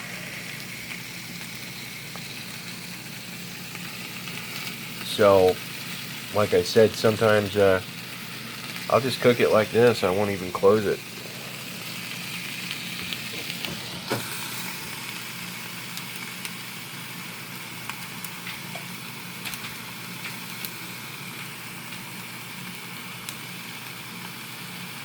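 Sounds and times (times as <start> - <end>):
chicken sizzling on a grill: 0.0 - 25.0.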